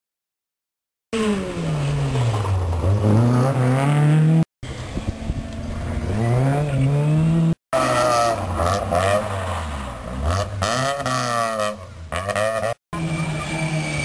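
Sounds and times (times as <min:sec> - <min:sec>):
car engine revving: 0:01.2 - 0:14.0
rally car engine accelerating: 0:01.2 - 0:14.0.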